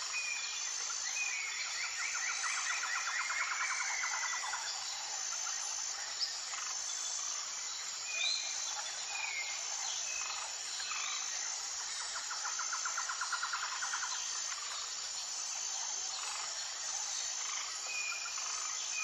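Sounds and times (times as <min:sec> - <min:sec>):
rapid buzzy insect trill: 0:00.0 - 0:19.0.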